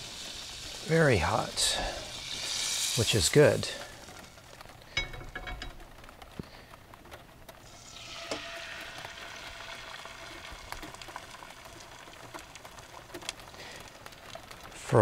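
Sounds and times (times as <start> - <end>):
eggs sizzling in hot pan: 0.0 - 15.0.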